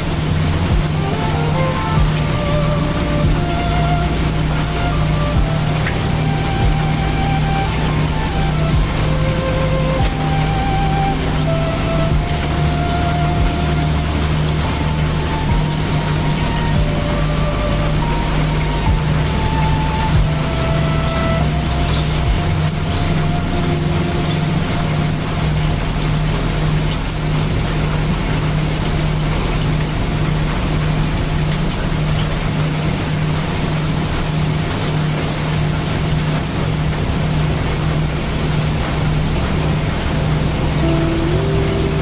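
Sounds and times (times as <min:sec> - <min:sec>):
brown noise: 0:00.0 - 0:42.0
heavy rain: 0:00.0 - 0:42.0
low hum: 0:00.0 - 0:42.0.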